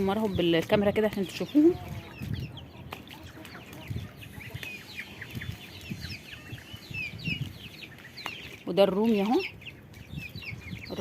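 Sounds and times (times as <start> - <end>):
young poultry peeping: 0.0 - 11.0.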